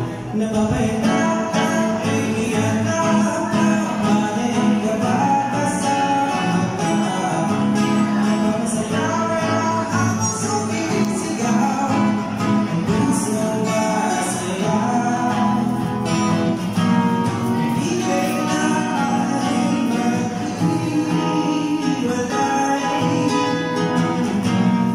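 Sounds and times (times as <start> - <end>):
person singing: 0.0 - 24.9
strummed acoustic guitar: 0.0 - 24.9.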